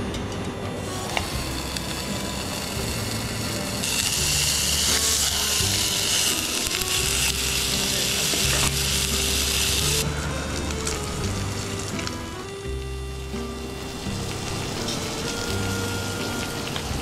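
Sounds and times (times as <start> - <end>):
background music with bass line: 0.0 - 17.0
meat sizzling in a frying pan: 0.8 - 17.0.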